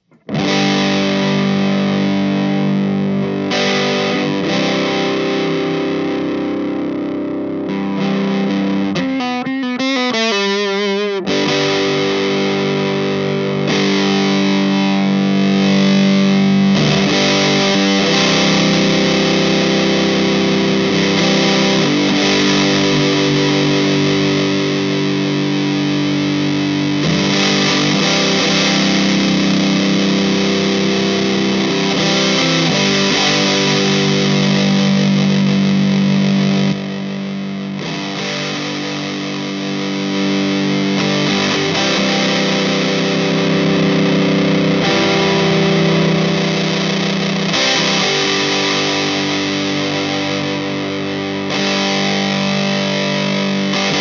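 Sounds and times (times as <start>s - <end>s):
fuzz distorted electric guitar: 0.0s - 54.0s.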